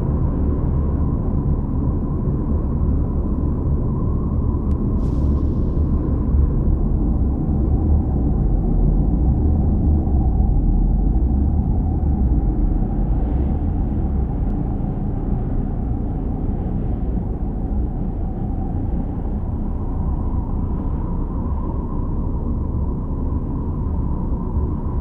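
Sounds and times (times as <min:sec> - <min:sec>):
deep rumbling drone: 0:00.0 - 0:25.0.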